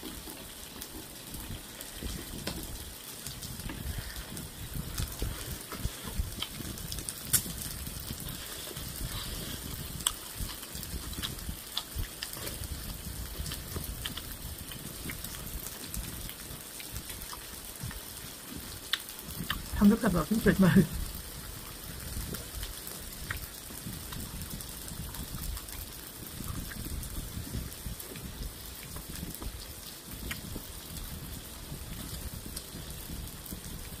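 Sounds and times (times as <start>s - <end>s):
person chewing with wet mouth noises: 0.0s - 19.8s, 21.0s - 31.1s.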